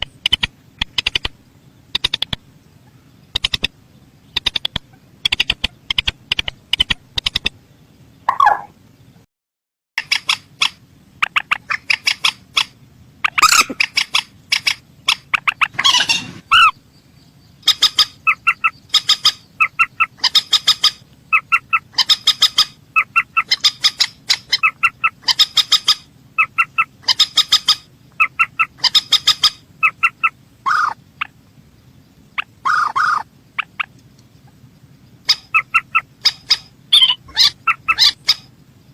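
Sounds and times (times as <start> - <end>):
rail bird calling: 0.0 - 7.5, 8.2 - 8.8, 10.0 - 31.4, 32.3 - 38.9.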